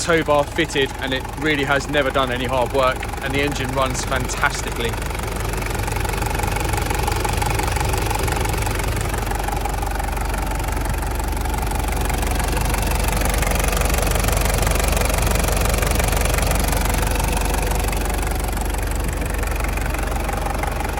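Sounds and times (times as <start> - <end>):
diesel engine idling with knock: 0.0 - 20.9.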